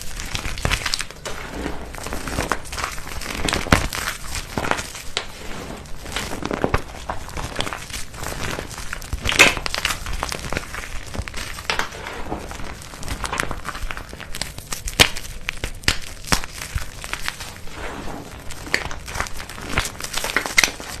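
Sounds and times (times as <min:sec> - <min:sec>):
brittle material crunching: 0:00.0 - 0:21.0.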